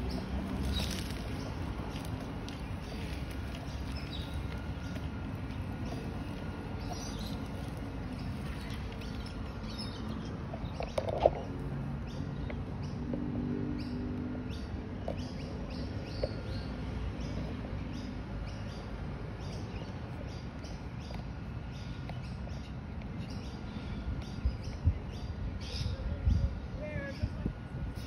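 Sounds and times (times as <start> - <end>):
small birds chirping: 0.0 - 13.2, 13.8 - 28.0
low outdoor rumble: 0.0 - 28.0.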